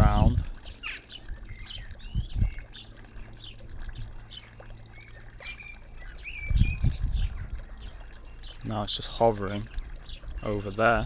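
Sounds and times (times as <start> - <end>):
distant helicopter hum: 0.0 - 11.0
songbirds chirping and whistling: 0.0 - 11.0.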